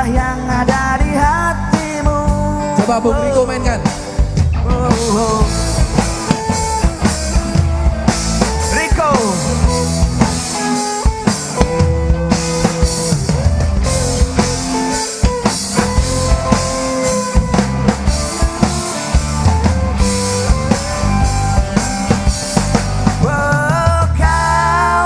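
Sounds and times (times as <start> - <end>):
bass line: 0.0 - 25.0
drum kit beat: 0.0 - 25.0
sliding lead melody: 0.0 - 25.0.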